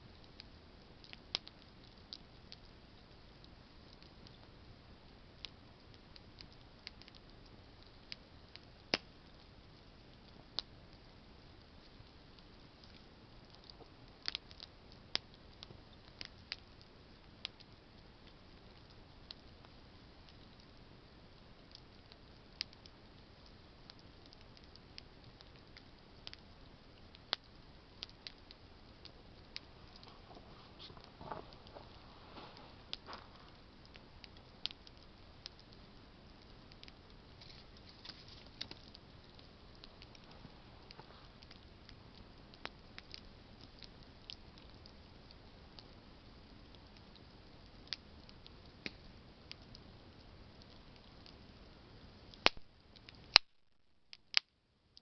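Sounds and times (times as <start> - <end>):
campfire crackling: 0.0 - 55.0
soft steady hiss: 0.0 - 55.0.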